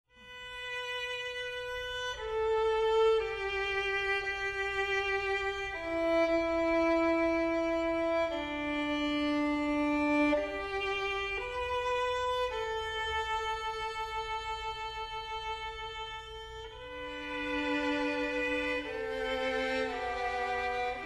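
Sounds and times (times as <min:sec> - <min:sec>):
slow bowed string melody: 0:00.1 - 0:21.0.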